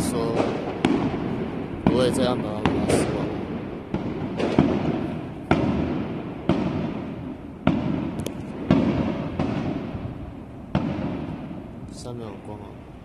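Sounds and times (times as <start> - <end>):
fireworks booming with echo: 0.0 - 13.0.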